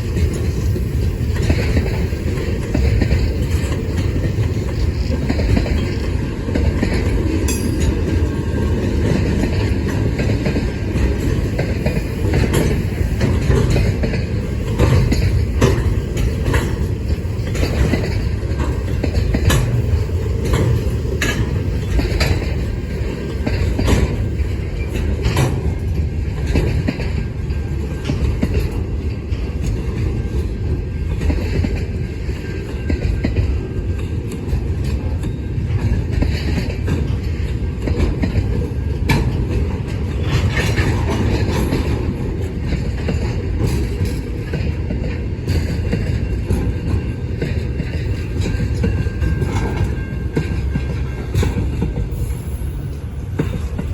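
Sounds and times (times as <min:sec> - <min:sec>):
freight train rumbling past: 0:00.0 - 0:53.9
wheels clicking over rail joints: 0:00.0 - 0:53.9.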